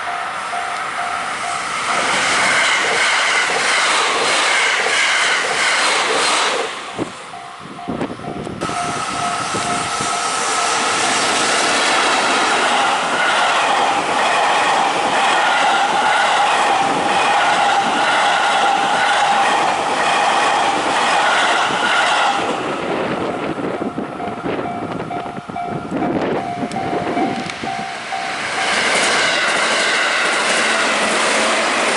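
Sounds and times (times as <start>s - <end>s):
level-crossing warning bell: 0.0s - 2.2s, 6.8s - 31.4s
electric train passing: 0.0s - 31.9s.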